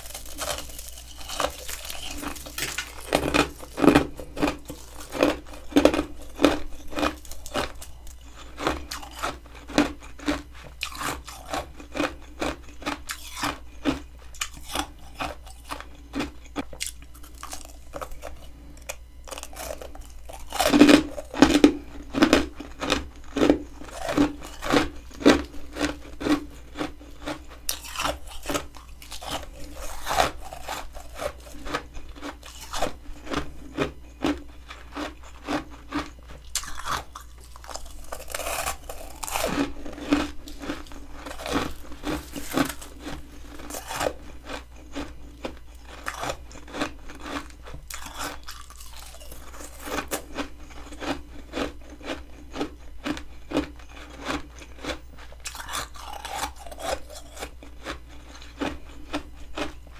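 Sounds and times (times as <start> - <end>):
frost being chewed crunching: 0.0 - 59.9.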